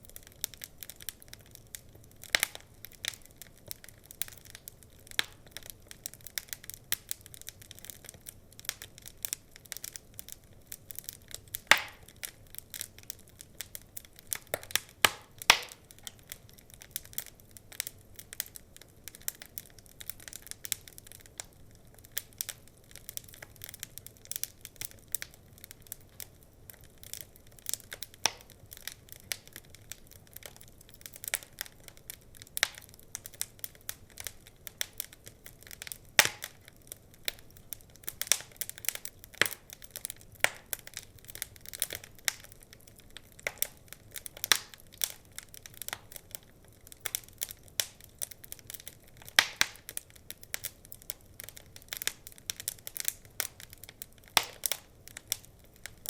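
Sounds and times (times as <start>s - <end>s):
faint low hiss: 0.0s - 56.0s
wood fire crackling and popping: 0.0s - 56.0s.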